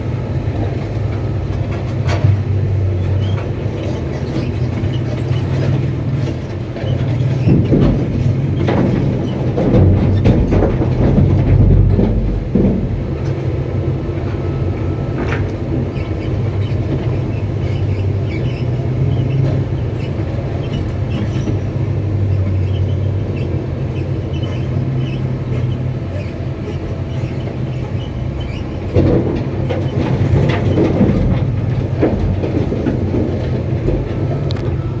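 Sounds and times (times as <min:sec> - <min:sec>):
excavator diesel engine running: 0:00.0 - 0:35.0
metallic knocks from tracks: 0:00.3 - 0:35.0.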